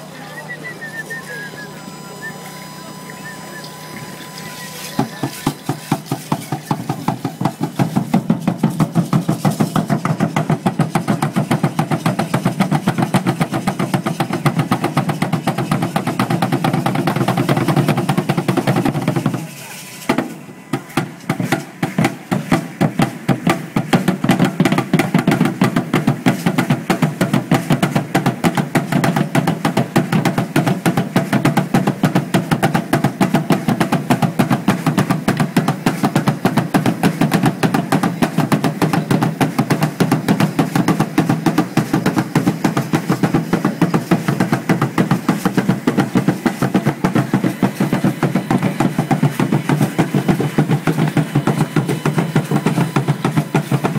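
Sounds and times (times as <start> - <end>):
drum beating fast rhythm: 0.0 - 53.9.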